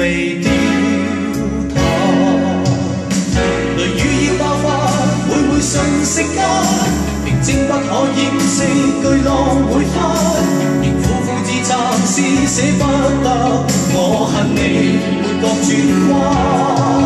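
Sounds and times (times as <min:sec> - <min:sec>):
pop song from vinyl record: 0:00.0 - 0:17.0.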